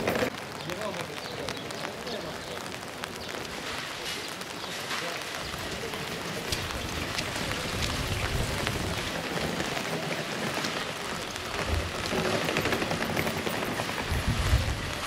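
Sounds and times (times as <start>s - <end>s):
rain on a wet street: 0.0s - 15.0s.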